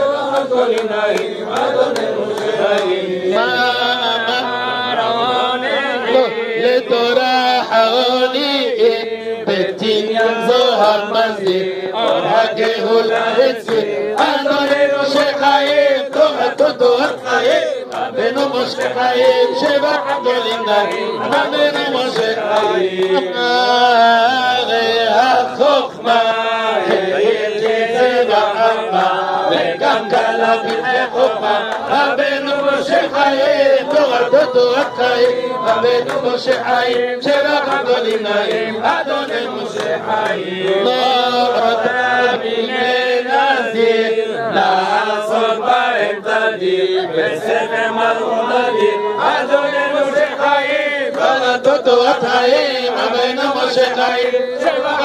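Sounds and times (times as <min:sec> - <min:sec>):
men singing a hymn: 0:00.0 - 0:55.0.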